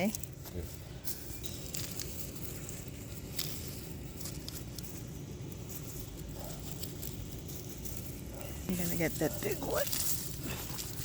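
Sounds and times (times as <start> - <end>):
faint rustles and clicks: 0.0 - 11.0.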